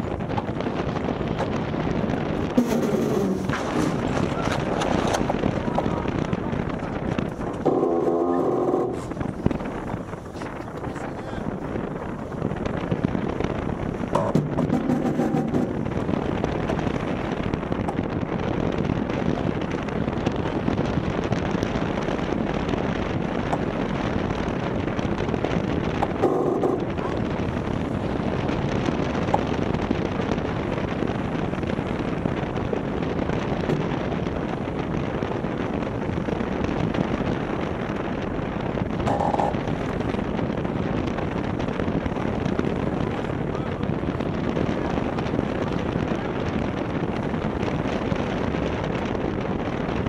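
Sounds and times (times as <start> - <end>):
water rushing along hull: 0.0 - 50.0
wind buffeting microphone: 0.0 - 50.0.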